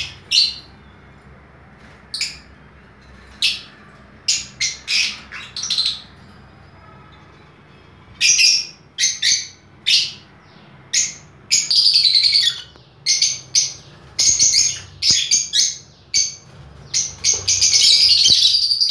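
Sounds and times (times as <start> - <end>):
lovebirds chirping shrilly: 0.0 - 18.9.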